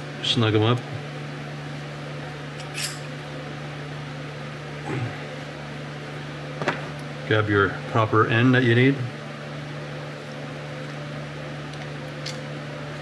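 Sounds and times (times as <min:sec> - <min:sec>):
workshop room hum: 0:00.0 - 0:13.0.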